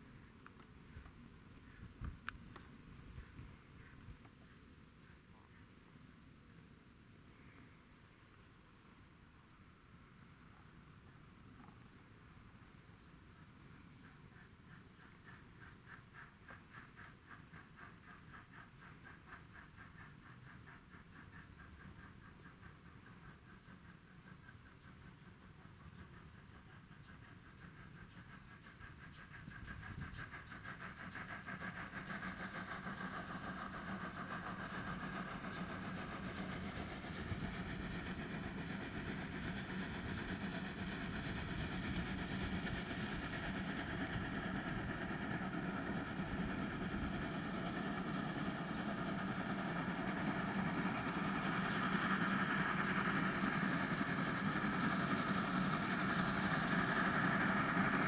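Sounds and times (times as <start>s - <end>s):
steam locomotive running: 0.0s - 58.0s.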